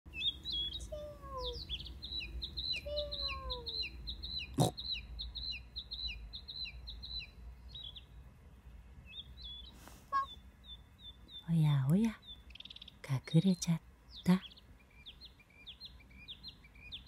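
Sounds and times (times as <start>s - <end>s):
lower falling bird calls: 0.1s - 17.0s
small birds chirping: 0.1s - 17.0s.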